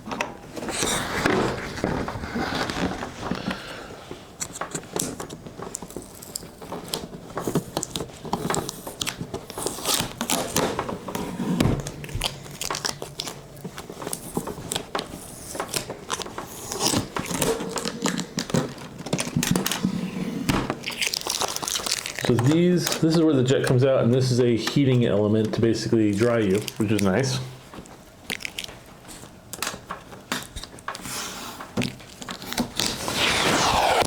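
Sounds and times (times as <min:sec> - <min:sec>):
plastic packaging crinkling: 0:00.7 - 0:34.0.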